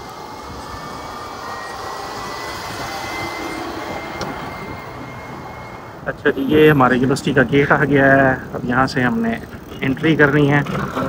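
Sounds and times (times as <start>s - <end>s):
faint high whine: 0.0s - 10.3s
bike road and wind noise: 0.0s - 11.0s.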